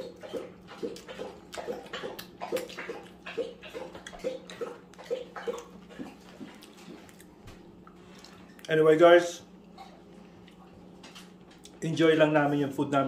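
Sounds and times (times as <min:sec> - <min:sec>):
wet chewing and lip-smacking: 0:00.0 - 0:08.8, 0:09.6 - 0:11.8.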